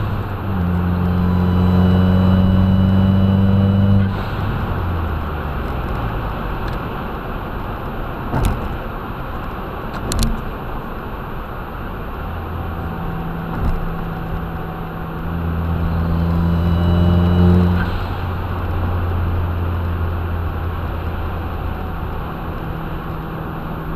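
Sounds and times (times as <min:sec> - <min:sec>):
car engine drone: 0:00.0 - 0:23.9
road noise: 0:00.0 - 0:23.9.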